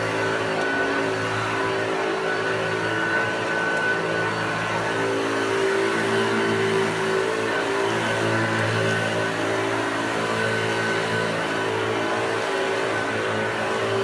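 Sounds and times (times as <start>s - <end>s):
vacuum cleaner motor humming: 0.0s - 14.0s.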